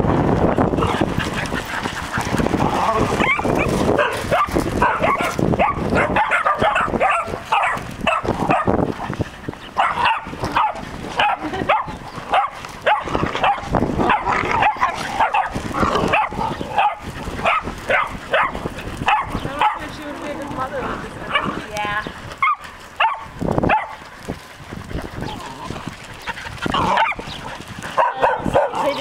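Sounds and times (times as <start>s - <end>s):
puppies yipping and barking: 0.8s - 21.6s, 22.3s - 29.0s.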